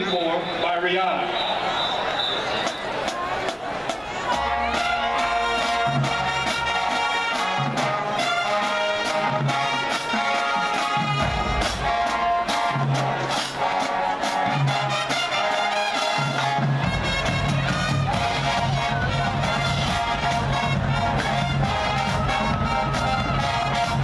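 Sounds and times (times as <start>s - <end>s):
marching band playing: 1.0s - 24.0s.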